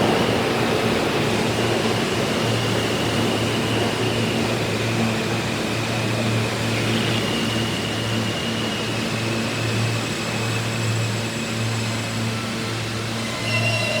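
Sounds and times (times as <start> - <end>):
subway train running: 0.0 - 14.0.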